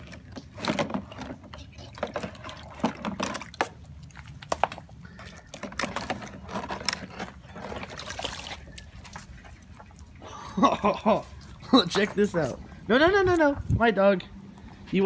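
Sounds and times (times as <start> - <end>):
water pouring and splashing: 0.0 - 12.5.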